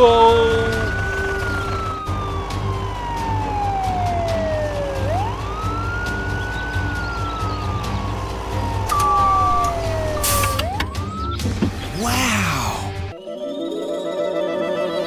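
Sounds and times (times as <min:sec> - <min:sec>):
wailing siren: 0:00.0 - 0:12.9.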